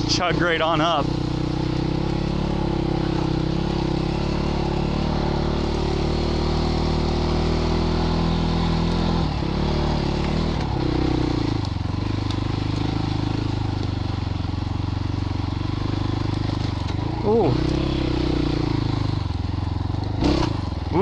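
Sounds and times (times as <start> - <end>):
dirt bike engine chugging: 0.0 - 21.0.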